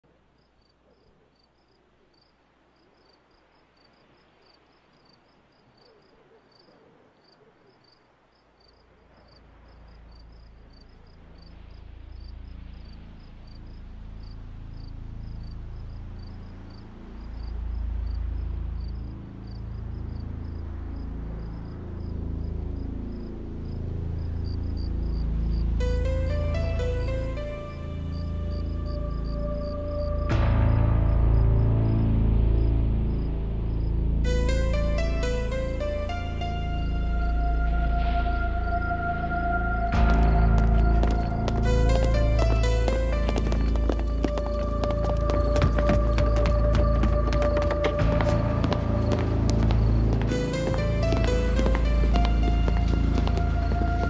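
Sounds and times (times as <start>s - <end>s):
crickets chirping: 0.0s - 54.0s
low rumbling drone: 9.4s - 54.0s.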